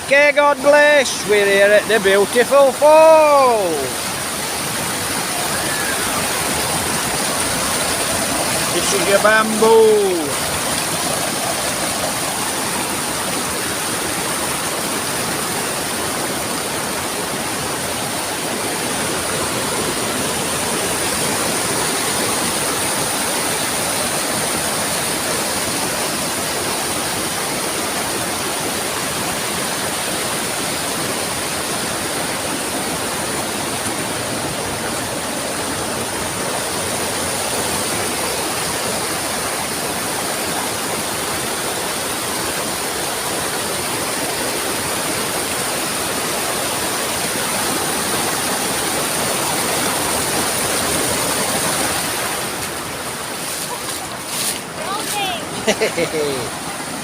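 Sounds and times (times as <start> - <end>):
waterfall and river rushing: 0.0 - 57.0.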